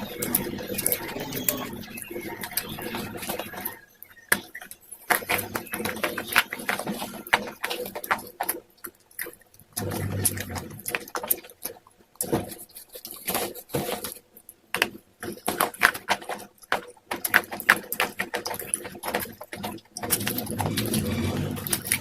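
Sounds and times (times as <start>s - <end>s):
crunching and chewing chalky slate: 4.4s - 22.0s.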